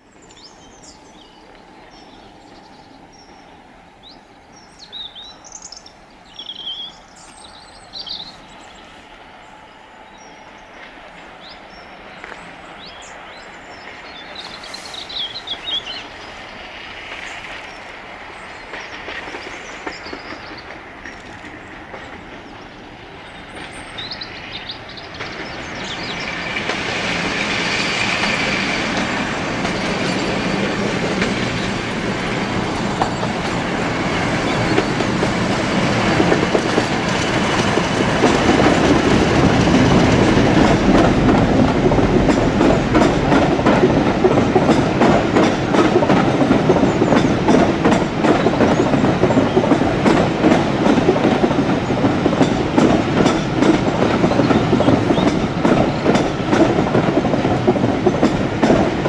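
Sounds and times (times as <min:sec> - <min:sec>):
diesel locomotive passing: 0:00.0 - 0:59.0
train wheels clickety-clack: 0:10.8 - 0:59.0.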